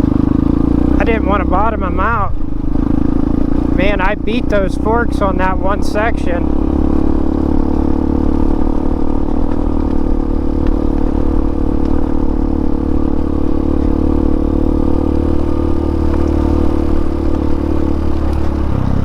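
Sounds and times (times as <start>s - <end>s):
motorcycle engine running: 0.0s - 19.0s
motorcycle rattling over rocks: 0.0s - 19.0s.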